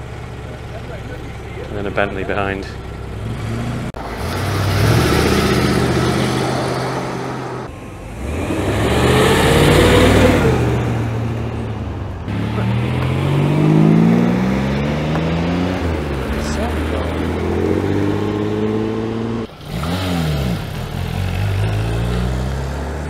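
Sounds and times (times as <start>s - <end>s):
cars accelerating past: 1.8s - 23.0s.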